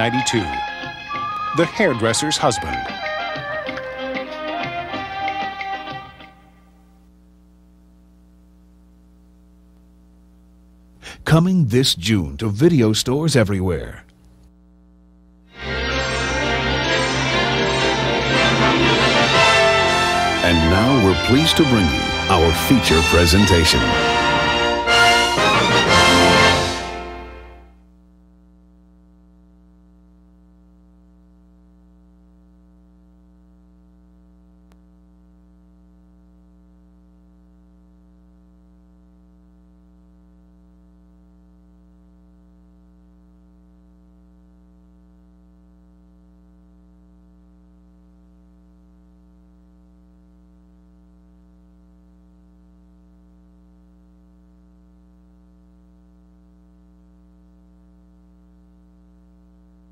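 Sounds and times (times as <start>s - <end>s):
low electrical hum: 5.6s - 59.9s.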